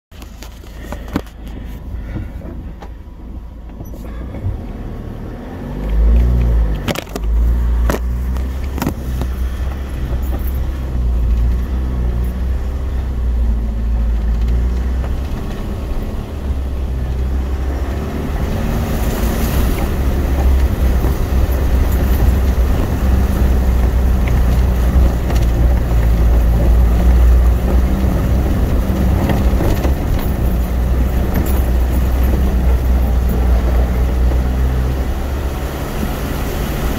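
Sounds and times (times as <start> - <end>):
engine rumbling under load: 0.1 - 36.9
water rushing and splashing: 4.8 - 36.9.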